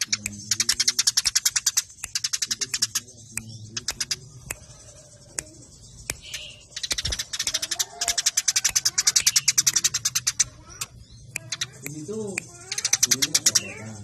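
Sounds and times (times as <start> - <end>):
sparrows chattering: 0.0 - 14.0.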